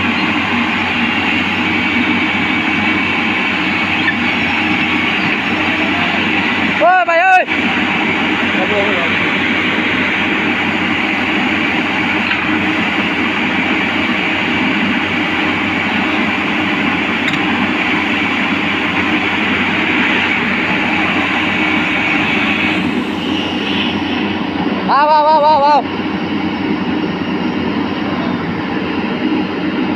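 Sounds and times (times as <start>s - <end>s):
excavator engine and hydraulics: 0.0s - 29.9s.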